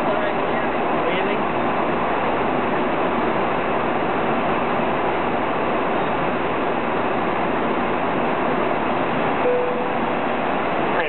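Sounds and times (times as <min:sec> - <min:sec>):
jet airliner cabin noise: 0:00.0 - 0:11.0.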